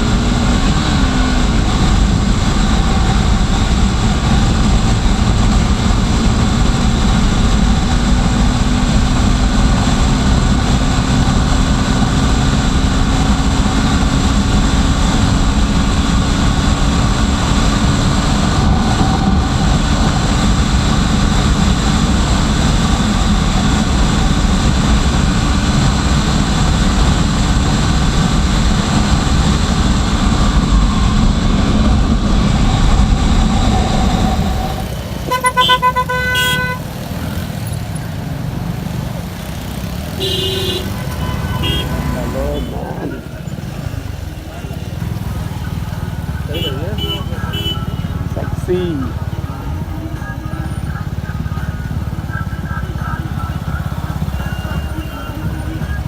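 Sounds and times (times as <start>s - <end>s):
engine tone rising in pitch: 0.0s - 38.8s, 39.5s - 56.0s
vehicle rumble: 0.0s - 56.0s.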